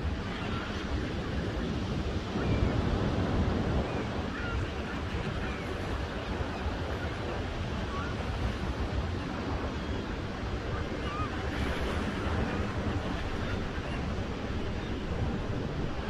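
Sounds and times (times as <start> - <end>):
surf breaking on beach: 0.0 - 16.0
wind rumble on microphone: 0.0 - 16.0.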